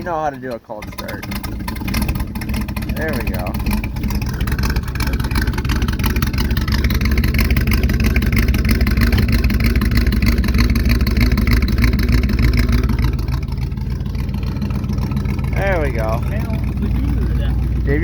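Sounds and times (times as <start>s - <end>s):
pickup truck engine running: 0.0s - 18.0s.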